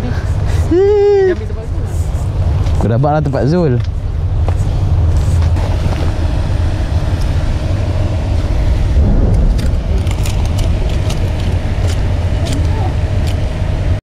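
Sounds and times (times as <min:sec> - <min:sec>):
faint constant hum: 0:00.0 - 0:14.0
steady low rumble: 0:01.4 - 0:14.0.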